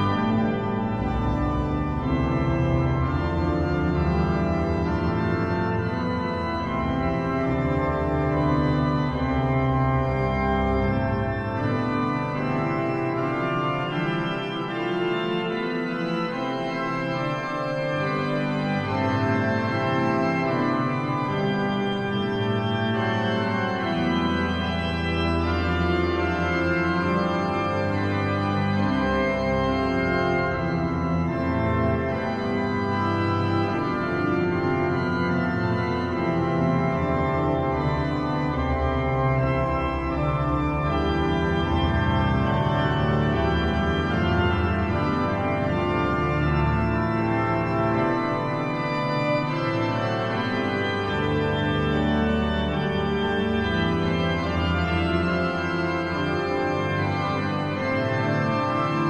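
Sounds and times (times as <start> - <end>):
low organ pedal notes: 0.0 - 59.0
pipe organ chords: 0.0 - 59.0.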